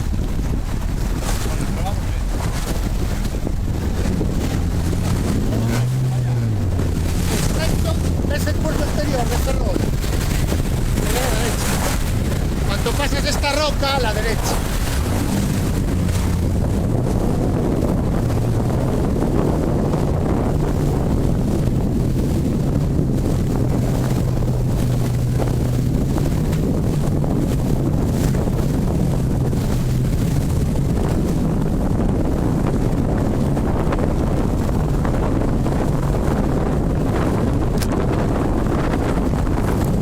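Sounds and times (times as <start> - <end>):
boat engine running: 0.0 - 40.0
wind buffeting microphone: 0.0 - 40.0.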